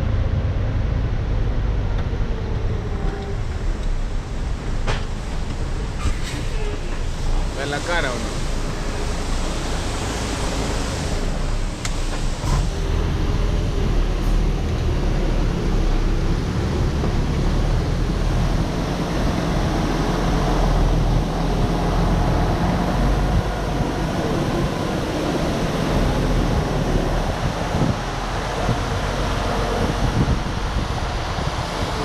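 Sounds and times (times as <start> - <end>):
road noise: 0.0 - 32.0
truck engine rumble from cab: 0.0 - 32.0
wind noise: 0.0 - 32.0.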